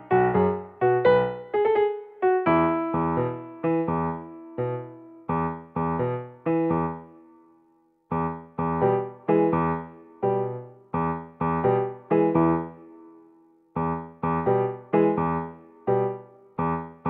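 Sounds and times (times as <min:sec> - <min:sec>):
piano-like keyboard notes: 0:00.0 - 0:17.0.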